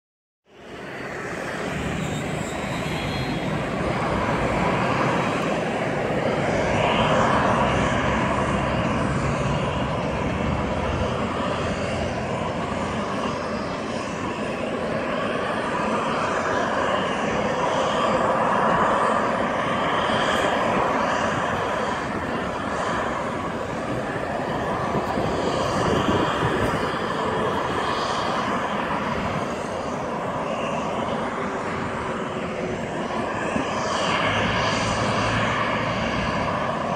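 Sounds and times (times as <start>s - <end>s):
faint jet engine whine: 0.5s - 36.9s
jet engines rushing hum: 0.5s - 36.9s.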